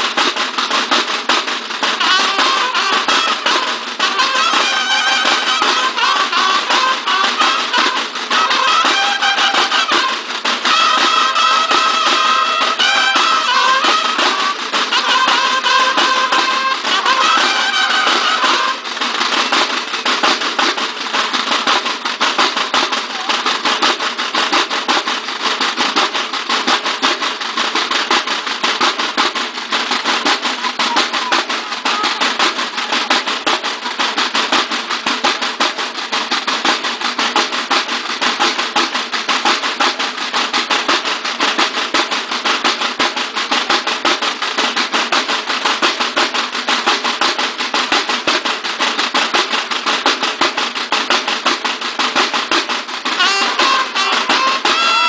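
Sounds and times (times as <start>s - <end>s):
field drums marching rhythm: 0.0s - 55.0s.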